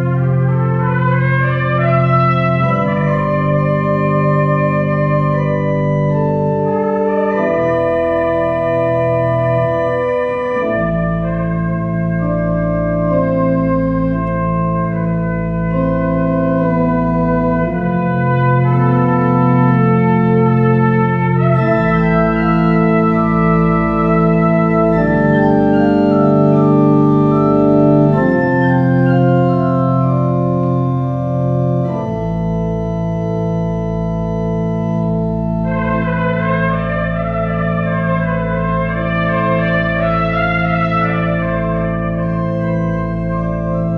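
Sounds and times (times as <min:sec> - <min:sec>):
organ playing chords: 0:00.0 - 0:43.9.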